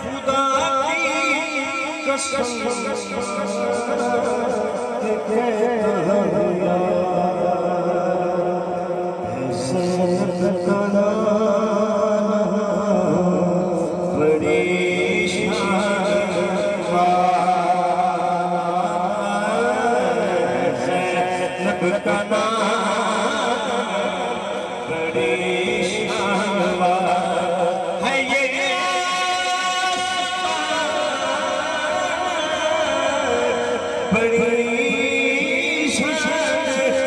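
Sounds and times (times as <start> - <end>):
men chanting: 0.0 - 37.0.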